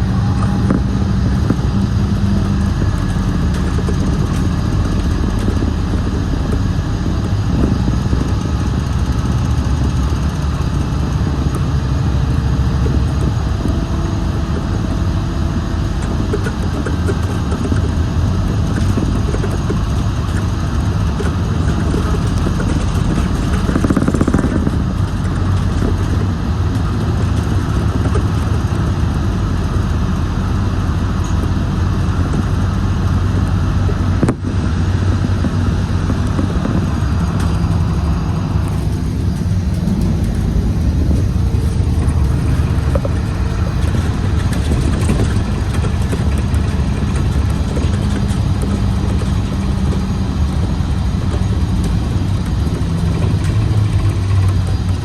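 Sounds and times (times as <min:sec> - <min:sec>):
bus engine drone: 0:00.0 - 0:55.0
rush of noise: 0:00.0 - 0:55.0.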